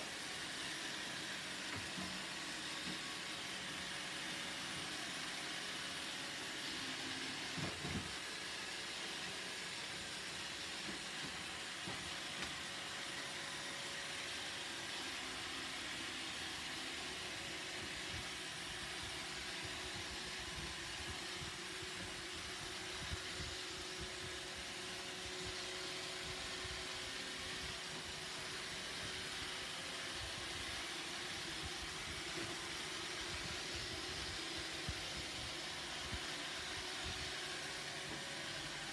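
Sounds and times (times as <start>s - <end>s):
robot vacuum whirring: 0.0s - 38.9s.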